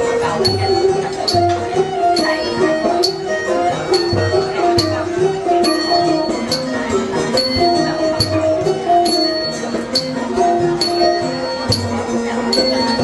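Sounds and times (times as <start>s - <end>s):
ringing metallic percussion strokes: 0.0s - 13.0s.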